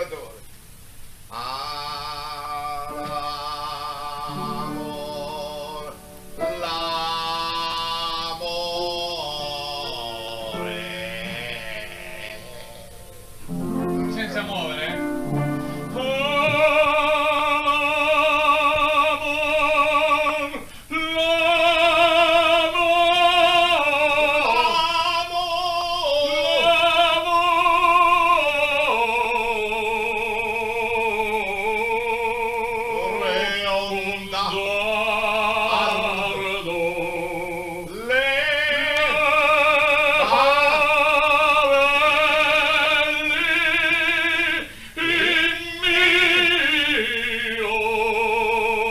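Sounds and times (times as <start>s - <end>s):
operatic voice singing: 1.3s - 13.1s, 15.9s - 48.9s.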